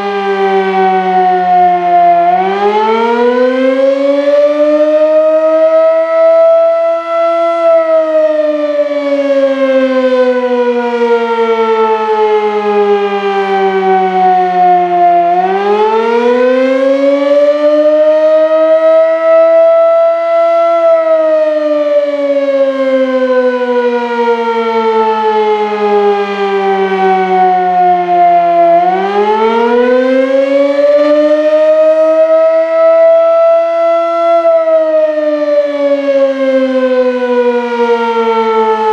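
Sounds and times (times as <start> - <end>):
mechanical fire siren wailing: 0.0 - 38.9.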